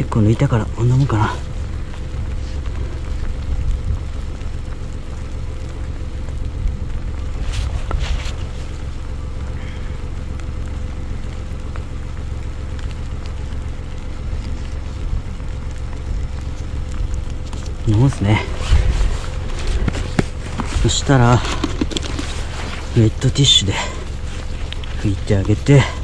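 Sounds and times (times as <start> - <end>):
faint steady hum: 0.0 - 26.0
wind buffeting microphone: 0.0 - 26.0.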